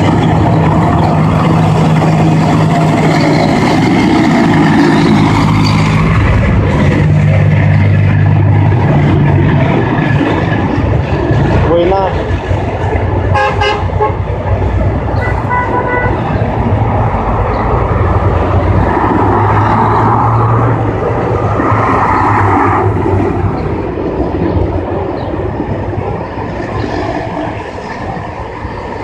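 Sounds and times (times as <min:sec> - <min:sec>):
heavy trucks driving past: 0:00.0 - 0:29.0.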